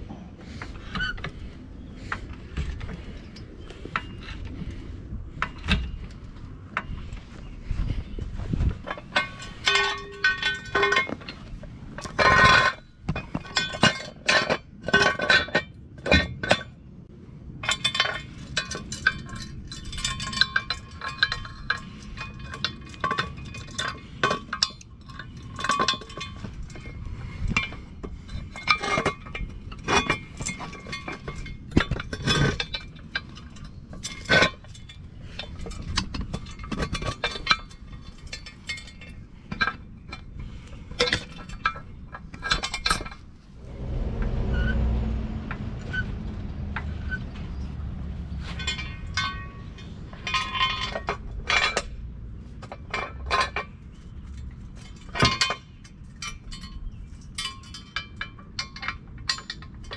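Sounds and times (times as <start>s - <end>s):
metal jack stand and chain clanking: 0.0s - 16.9s, 17.6s - 59.9s.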